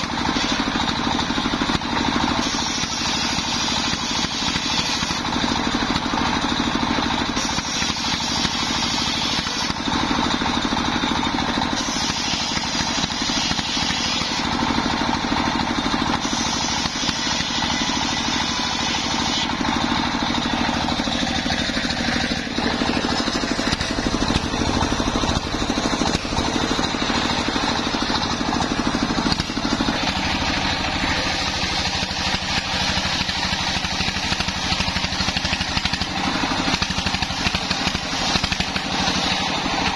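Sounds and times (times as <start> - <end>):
circular saw ripping wood: 0.0 - 6.4, 7.3 - 39.9
diesel engine running: 0.0 - 39.9.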